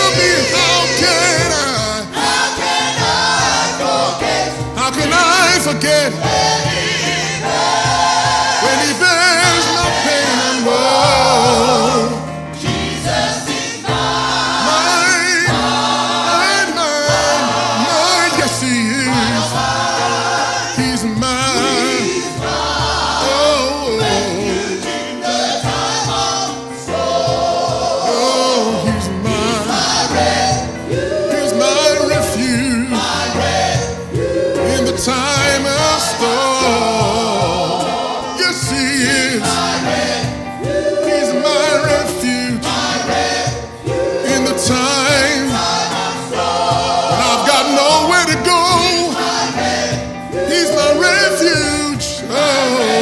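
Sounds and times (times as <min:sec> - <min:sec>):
band accompaniment: 0:00.0 - 0:53.0
gospel choir singing: 0:00.0 - 0:53.0.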